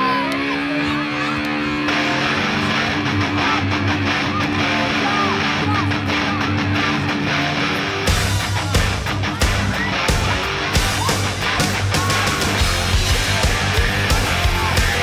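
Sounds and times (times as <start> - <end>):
guitar rock music: 0.0 - 15.0.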